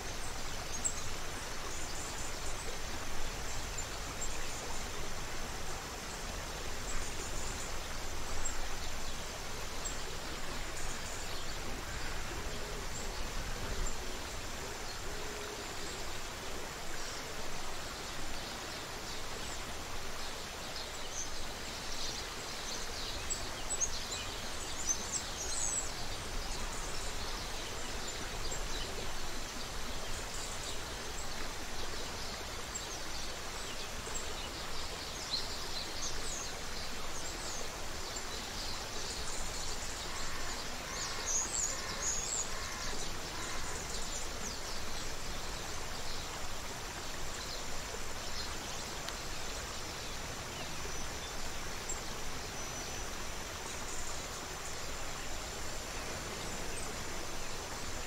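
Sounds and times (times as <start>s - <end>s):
creek water running: 0.0s - 58.0s.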